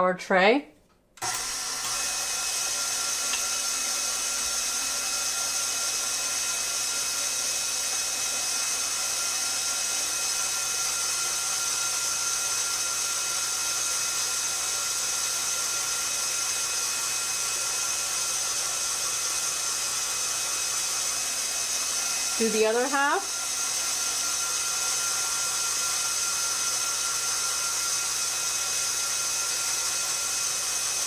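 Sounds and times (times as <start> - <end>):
stand mixer motor whining: 1.2 - 31.0.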